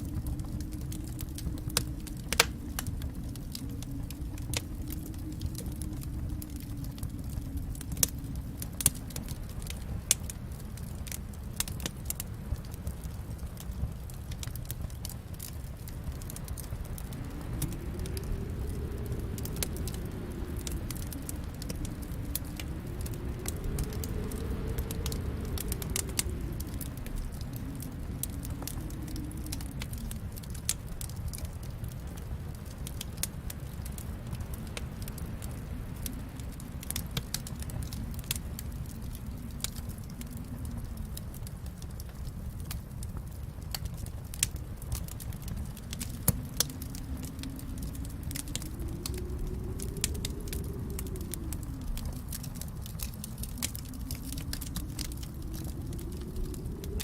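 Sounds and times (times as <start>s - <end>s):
fireplace fire crackling: 0.0s - 57.0s
low rumble of flames: 0.0s - 57.0s.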